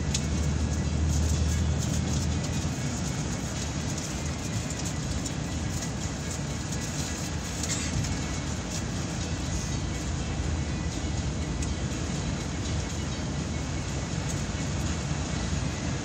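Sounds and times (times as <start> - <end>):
faint clicks and rattles: 0.0 - 15.6
bus engine rumble and road noise: 0.0 - 16.0.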